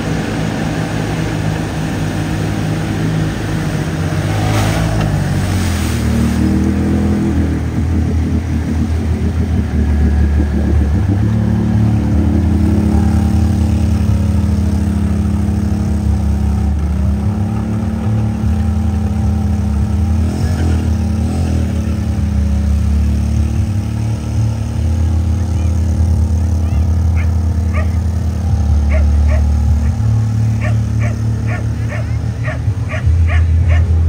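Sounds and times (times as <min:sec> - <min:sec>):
atv engine revving: 0:00.0 - 0:34.0
mud and water splashing: 0:00.0 - 0:34.0.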